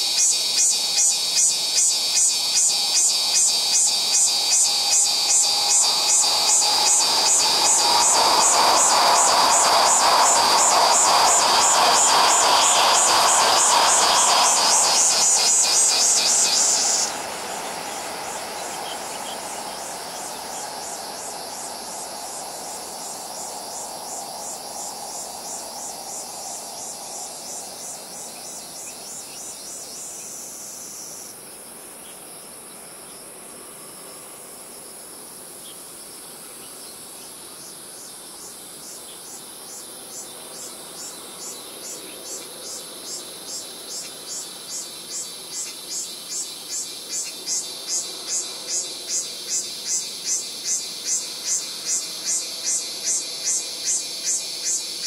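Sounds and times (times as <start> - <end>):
train rumble in tunnel: 0.0 - 30.3, 37.4 - 55.0
rhythmic pulsing insect calls: 0.0 - 55.0.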